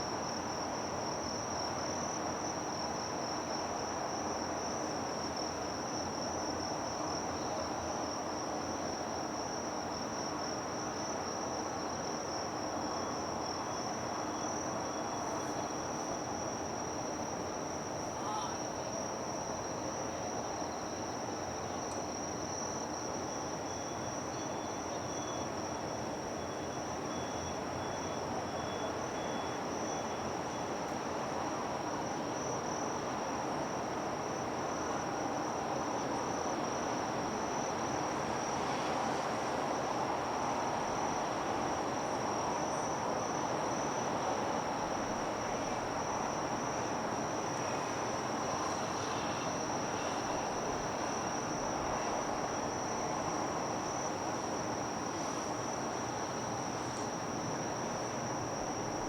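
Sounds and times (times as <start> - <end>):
harbour and city noise: 0.0 - 59.0.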